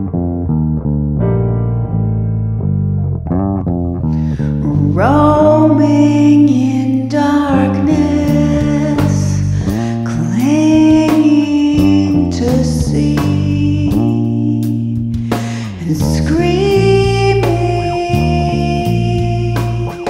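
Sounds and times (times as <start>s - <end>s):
electric bass guitar low notes: 0.0s - 20.0s.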